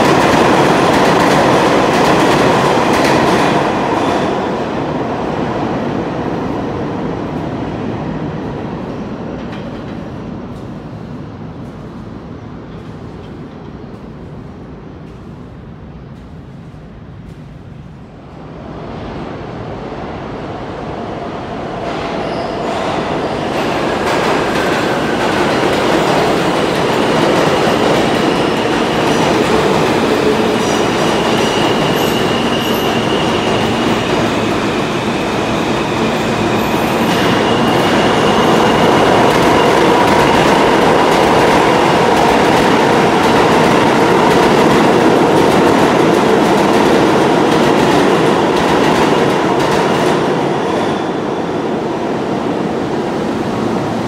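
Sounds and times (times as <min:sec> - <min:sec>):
subway train wheels rumbling on rails: 0:00.0 - 0:54.0.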